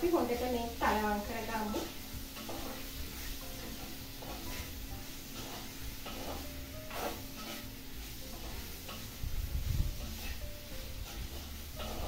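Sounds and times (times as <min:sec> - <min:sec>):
peppers sizzling in oil: 0:00.0 - 0:12.0
spoon stirring scrape: 0:00.2 - 0:12.0.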